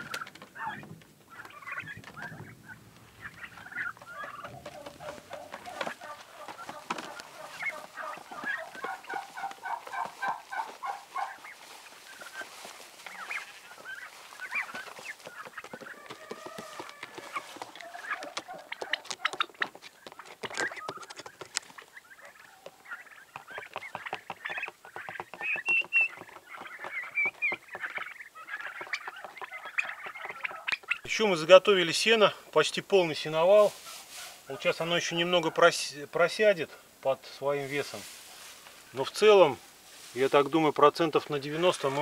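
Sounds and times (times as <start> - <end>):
young turkeys peeping: 0.0 - 42.0.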